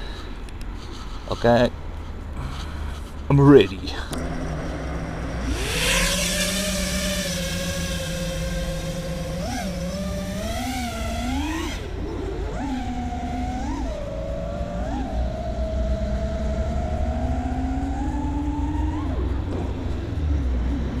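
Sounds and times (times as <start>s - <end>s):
low wind rumble: 0.0s - 21.0s
drone motors whining: 2.4s - 21.0s.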